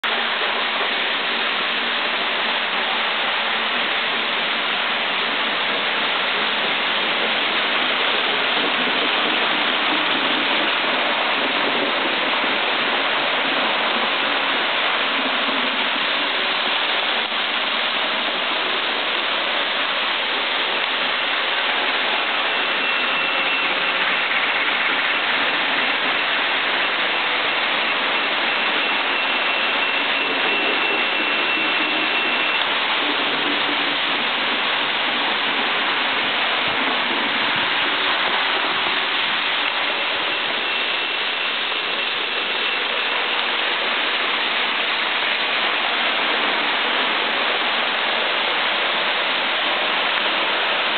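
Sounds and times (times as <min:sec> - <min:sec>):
faint thin high whine: 0:00.0 - 0:50.9
small wheels whirring on rail: 0:00.1 - 0:50.9.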